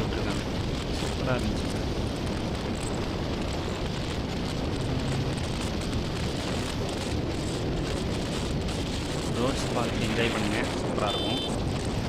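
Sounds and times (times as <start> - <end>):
motorcycle running: 0.0 - 12.0
wind rush on microphone: 0.0 - 12.0.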